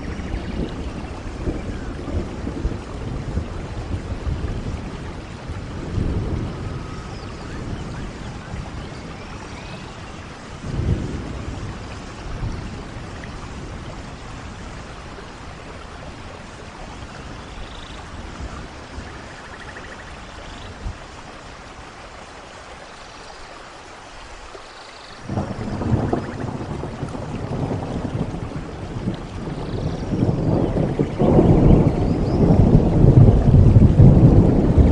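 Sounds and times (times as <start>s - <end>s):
thunder rumbling: 0.0s - 21.4s, 25.2s - 34.9s
rain falling in forest: 0.0s - 34.9s.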